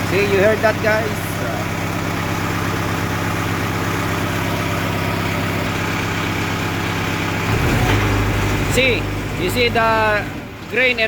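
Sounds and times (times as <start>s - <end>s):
diesel engine idling with misfire: 0.0s - 11.0s.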